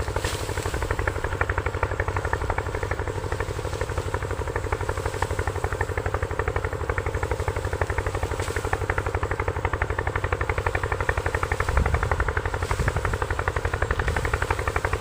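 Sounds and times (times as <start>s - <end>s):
motor pulsing: 0.0s - 15.0s.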